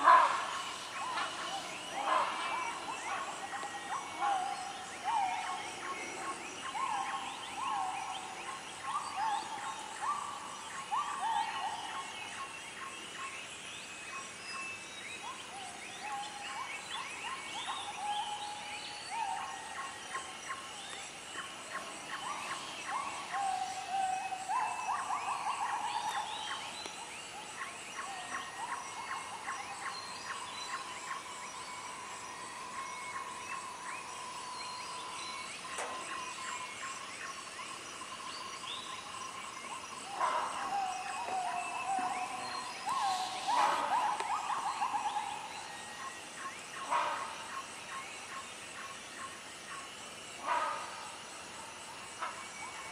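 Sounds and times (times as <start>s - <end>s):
steady insect drone: 0.0s - 52.9s.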